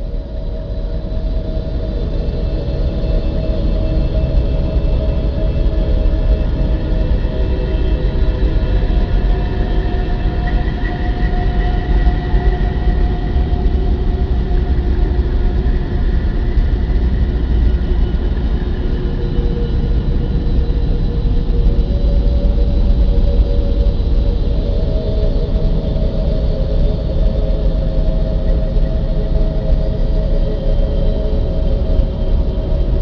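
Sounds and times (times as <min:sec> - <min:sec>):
deep rumbling drone: 0:00.0 - 0:33.0.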